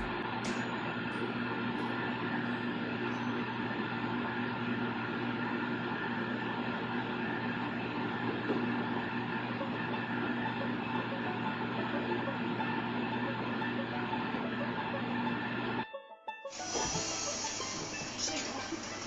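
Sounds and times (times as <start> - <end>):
mechanical hum with held tones: 0.0 - 15.9, 16.5 - 19.0.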